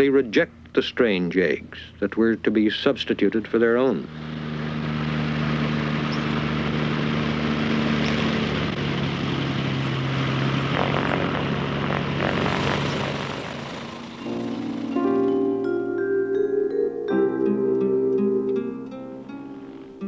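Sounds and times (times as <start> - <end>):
airboat engine droning: 0.0 - 20.0.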